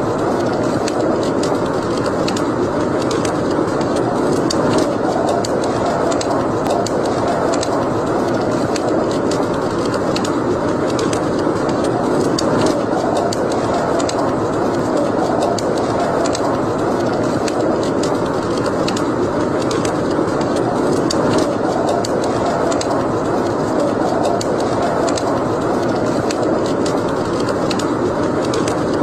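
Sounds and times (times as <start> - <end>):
fire crackling and popping: 0.0 - 29.0
wood fire burning: 0.0 - 29.0.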